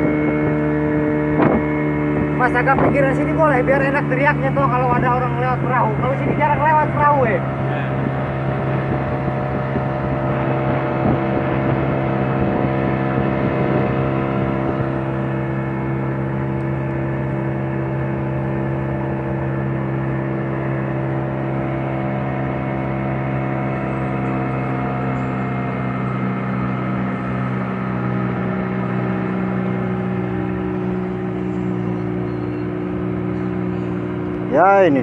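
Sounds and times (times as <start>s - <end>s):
small boat motor running: 0.0s - 35.0s.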